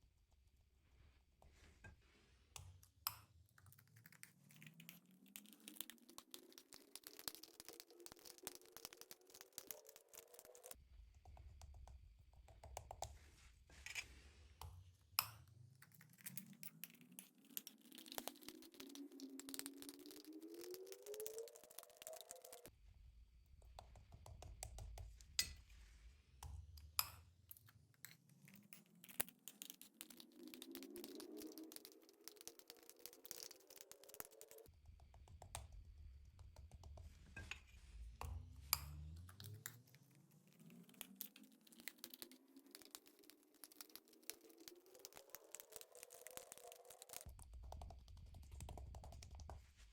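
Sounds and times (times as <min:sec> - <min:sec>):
slime being stirred: 0:00.9 - 0:22.7, 0:23.6 - 0:49.9.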